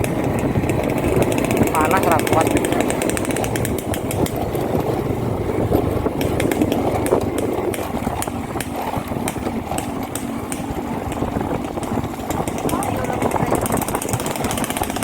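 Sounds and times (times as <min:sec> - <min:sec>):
clicks and rattles: 0:00.0 - 0:15.0
motorcycle engine rumble: 0:00.0 - 0:15.0.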